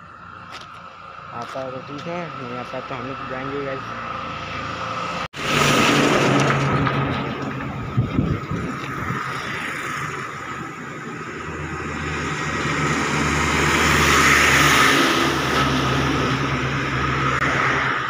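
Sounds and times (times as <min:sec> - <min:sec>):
truck passing by: 0:00.0 - 0:18.0.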